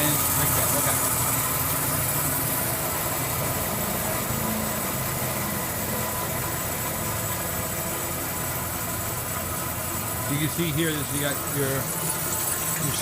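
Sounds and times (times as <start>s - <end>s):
band saw humming: 0.0s - 13.0s.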